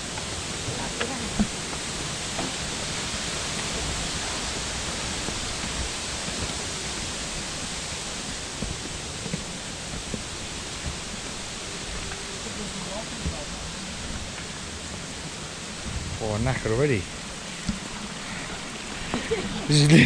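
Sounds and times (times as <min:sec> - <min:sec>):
flowing and falling water: 0:00.0 - 0:20.0.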